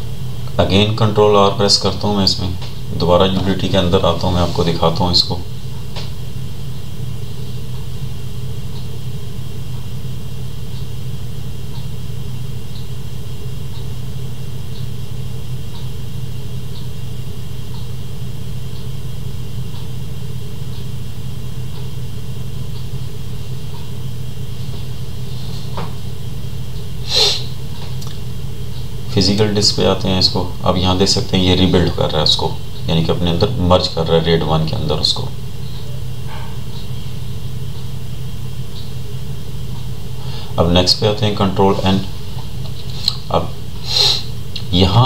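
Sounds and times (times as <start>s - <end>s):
server fans whirring: 0.0s - 45.0s.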